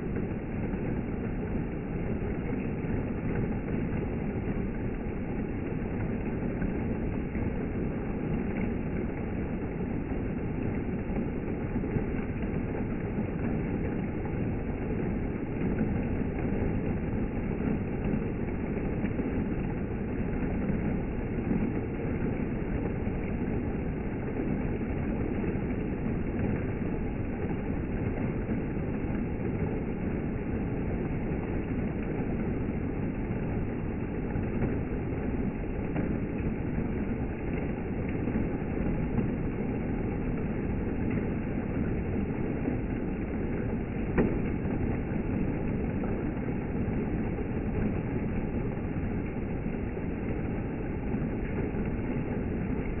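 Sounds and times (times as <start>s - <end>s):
steady rainfall: 0.0s - 53.0s.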